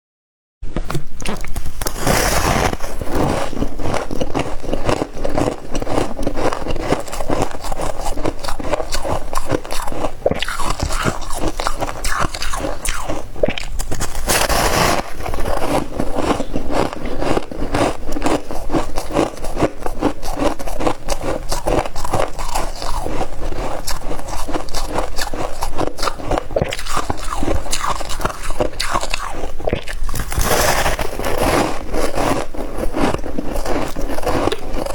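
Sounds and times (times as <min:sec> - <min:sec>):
ice being chewed crunching: 0:00.9 - 0:34.9.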